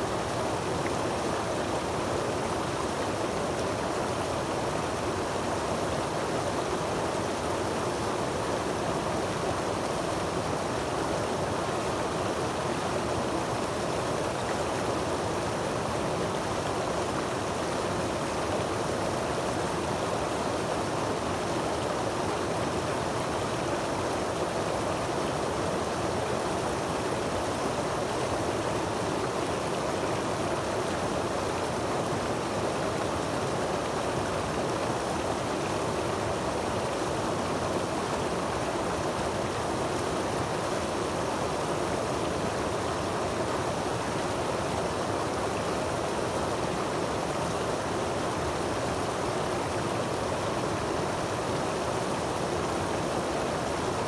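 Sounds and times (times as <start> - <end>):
creek water splashing over rocks: 0.0 - 54.0.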